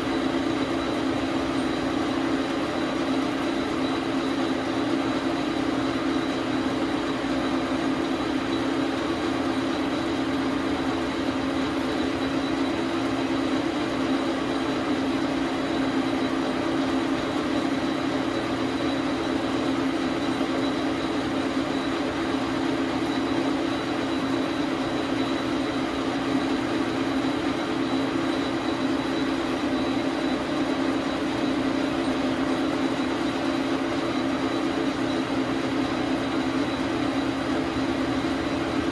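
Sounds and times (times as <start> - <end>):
lathe running: 0.0 - 38.9.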